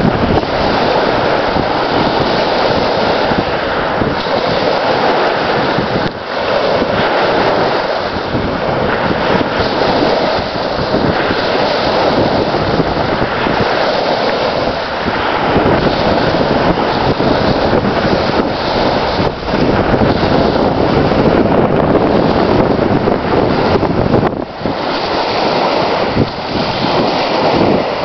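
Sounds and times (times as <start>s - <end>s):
small waves washing on shore: 0.0s - 28.0s
wind buffeting microphone: 0.0s - 28.0s.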